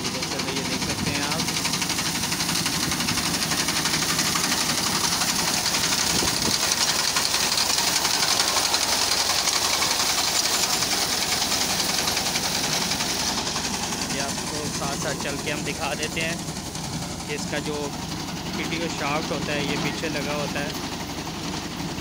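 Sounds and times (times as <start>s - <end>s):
tractor engine running under load: 0.0s - 22.0s.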